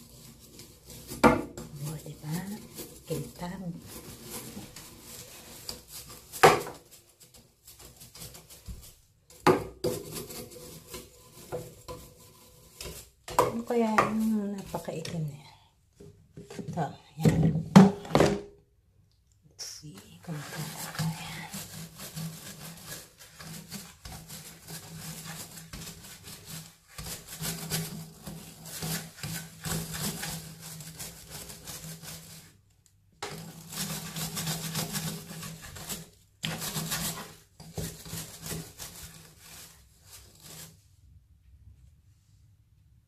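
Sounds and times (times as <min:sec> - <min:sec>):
scrub brush scrubbing a bath: 0:00.0 - 0:18.1, 0:19.6 - 0:41.3.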